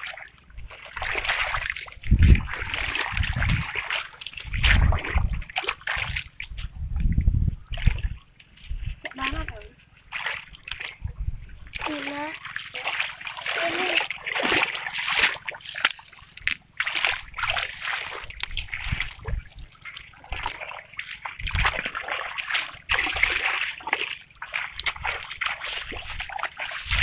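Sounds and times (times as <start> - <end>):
muddy water splashing: 0.0 - 27.0.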